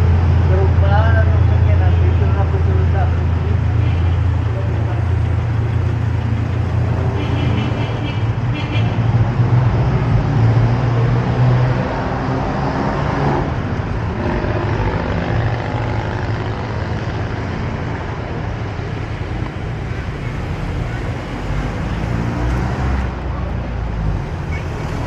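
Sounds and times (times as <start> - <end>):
passing traffic: 0.0 - 25.0
vehicle engine rumble: 0.0 - 25.0.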